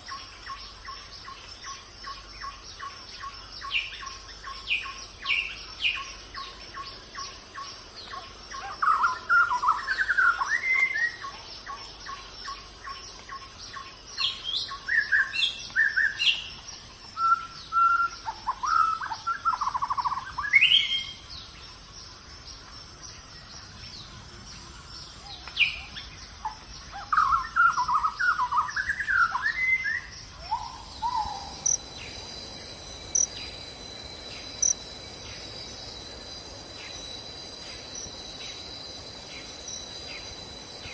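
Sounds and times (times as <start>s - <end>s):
birds singing and chirping: 0.0s - 40.9s
cricket-like trill: 0.0s - 40.9s
high insect drone: 0.0s - 40.9s.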